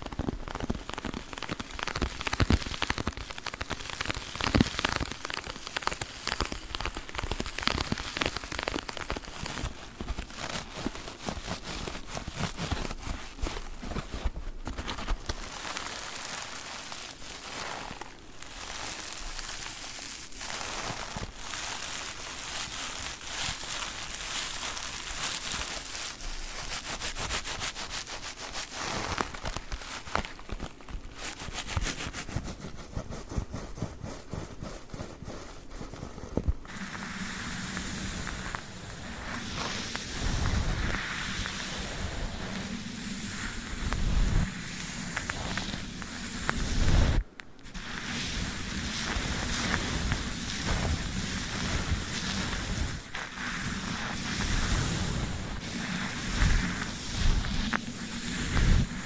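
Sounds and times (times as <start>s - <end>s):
sponges crackling and rustling: 0.0s - 59.0s.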